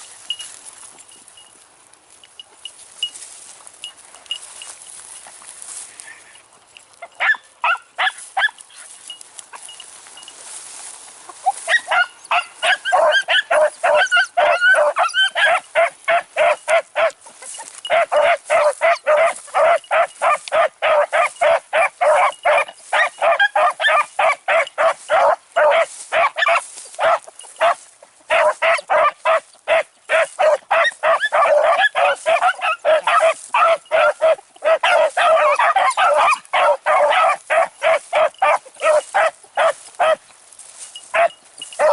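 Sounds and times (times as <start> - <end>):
dogs baying in chorus: 5.7 - 9.9, 11.3 - 41.9.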